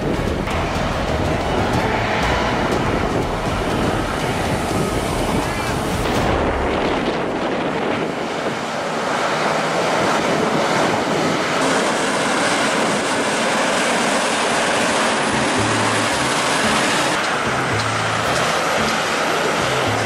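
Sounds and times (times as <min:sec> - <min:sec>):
trucks driving past: 0:00.0 - 0:20.0.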